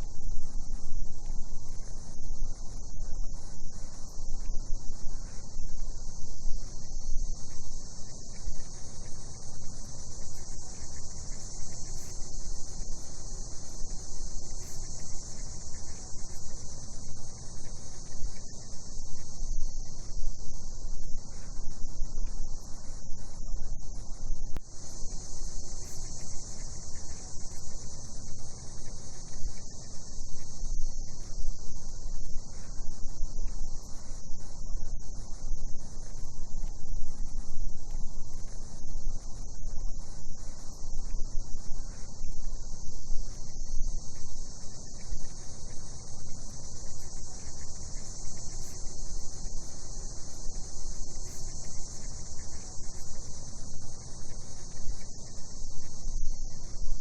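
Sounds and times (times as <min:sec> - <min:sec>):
cicadas chorus: 0:00.0 - 0:57.0.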